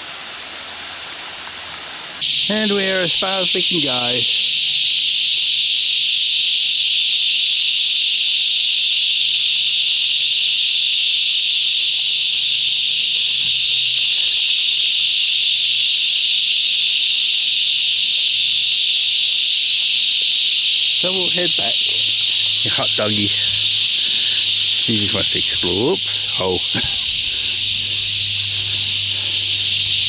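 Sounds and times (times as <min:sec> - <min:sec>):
cicadas chorus: 0:00.0 - 0:30.0.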